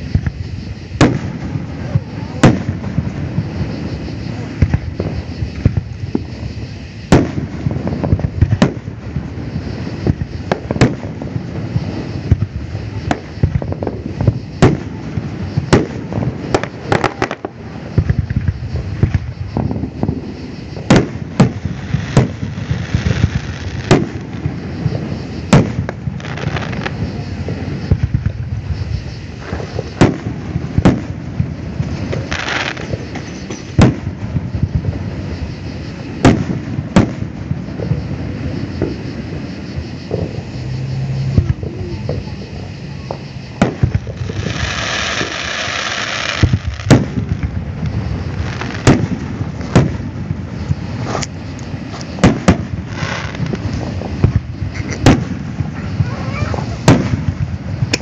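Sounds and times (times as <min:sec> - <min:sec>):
fireworks booming and cracking: 0:00.0 - 0:58.0.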